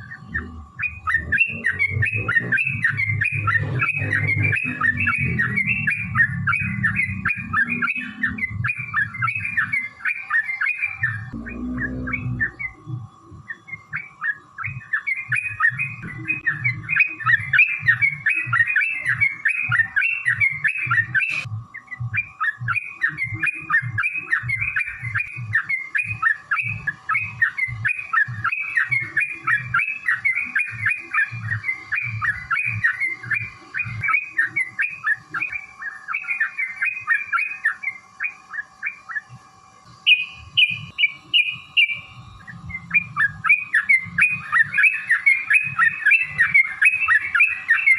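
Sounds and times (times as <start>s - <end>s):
bird chattering song: 0.0s - 47.9s.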